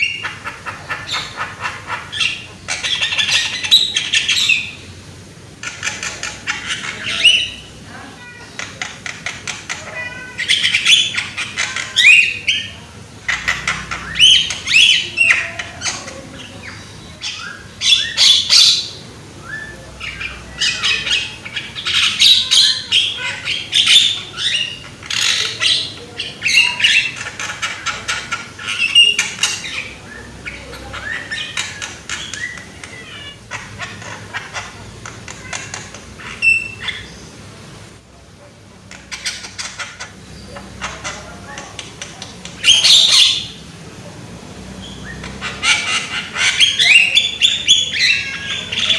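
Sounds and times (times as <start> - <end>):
myna calling harsh chattering: 0.0 - 38.0, 38.6 - 48.9.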